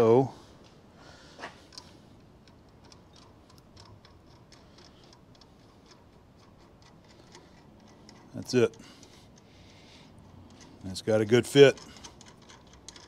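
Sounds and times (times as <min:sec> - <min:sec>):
nut spinning on bolt thread: 0:01.7 - 0:13.0.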